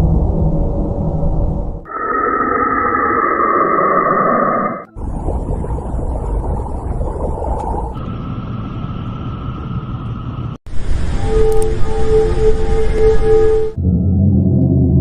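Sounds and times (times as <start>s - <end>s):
noisy rumble: 0.0s - 15.0s
eerie hum with whistling tone: 0.2s - 5.5s, 7.9s - 15.0s.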